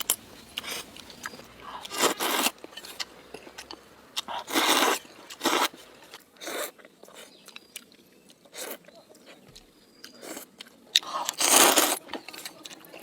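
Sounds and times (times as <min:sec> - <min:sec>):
crunchy food being chewed: 0:00.0 - 0:13.0.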